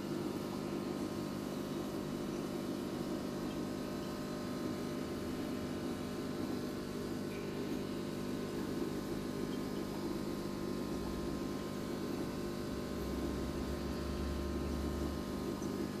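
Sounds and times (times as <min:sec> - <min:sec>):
aquarium equipment hum and hiss: 0:00.0 - 0:16.0.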